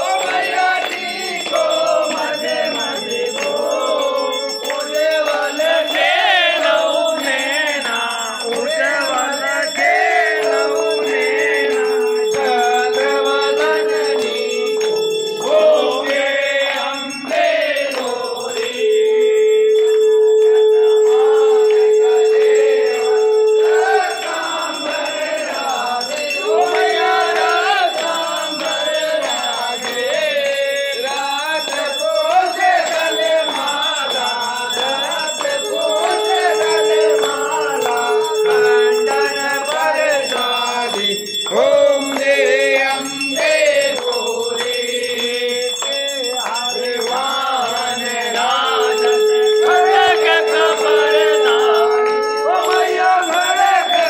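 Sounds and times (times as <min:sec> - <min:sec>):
steady held tone: 0:00.0 - 0:45.9, 0:46.6 - 0:54.0
hand bell ringing: 0:00.0 - 0:54.0
men singing in unison: 0:00.0 - 0:54.0.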